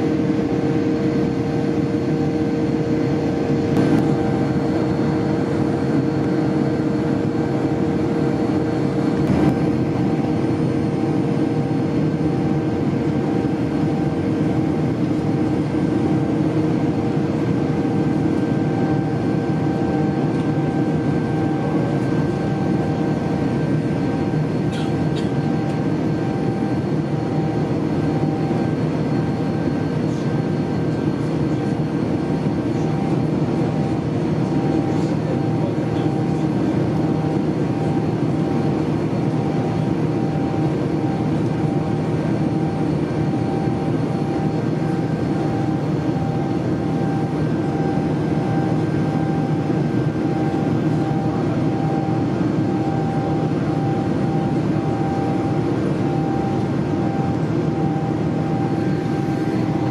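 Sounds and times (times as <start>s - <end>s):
airplane cabin engine noise: 0.0s - 59.9s
steady hums: 0.0s - 59.9s.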